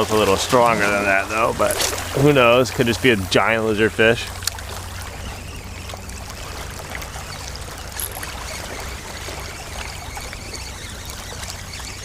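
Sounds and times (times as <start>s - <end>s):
water washing and trickling: 0.0s - 12.0s.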